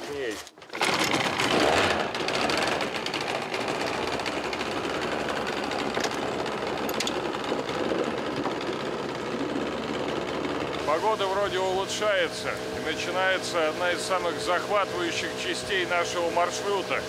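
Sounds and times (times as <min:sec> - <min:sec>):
outboard motor running: 0:00.6 - 0:17.0.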